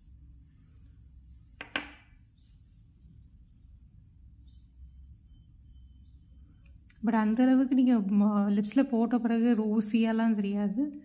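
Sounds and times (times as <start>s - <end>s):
small birds chirping: 0.0s - 8.9s.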